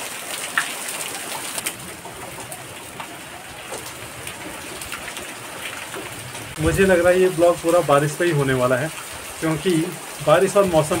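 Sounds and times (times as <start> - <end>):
close raindrop hits: 0.0 - 11.0
heavy rain on leaves: 0.0 - 11.0.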